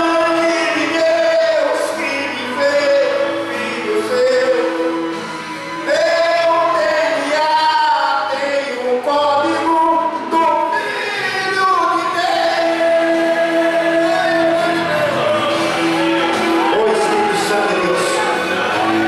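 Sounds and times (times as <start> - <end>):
man singing a hymn: 0.0 - 15.8, 16.6 - 19.0.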